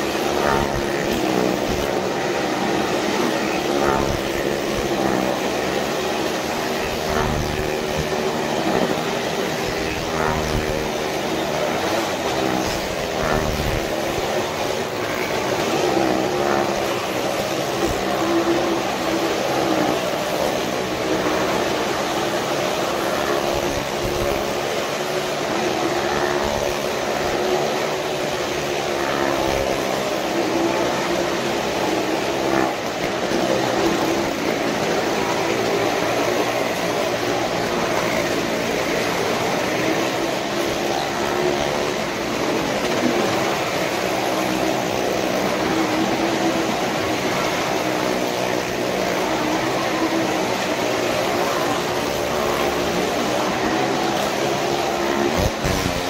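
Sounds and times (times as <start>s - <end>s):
motorcycle and car engines revving: 0.0s - 56.0s.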